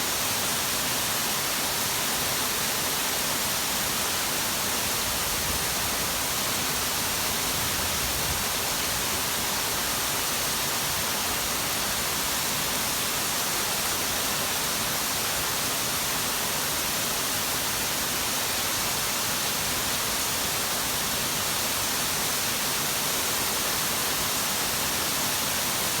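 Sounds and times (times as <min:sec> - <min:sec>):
heavy rain downpour: 0:03.3 - 0:26.0.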